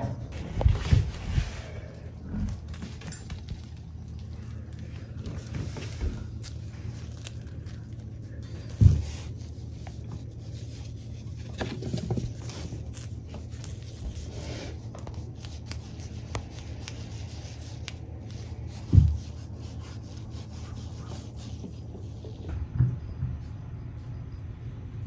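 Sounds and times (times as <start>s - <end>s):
toy streamers scraping on wooden floor: 0.3s - 22.5s.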